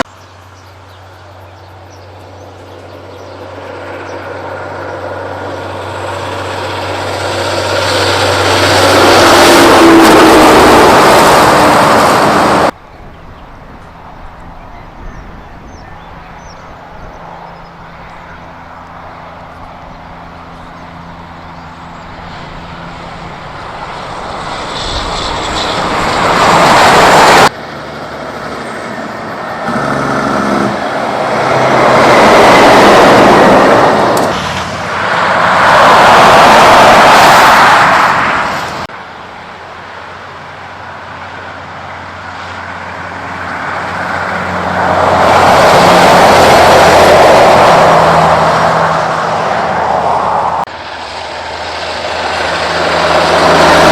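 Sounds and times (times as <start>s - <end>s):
heavy trucks passing: 0.0s - 53.9s.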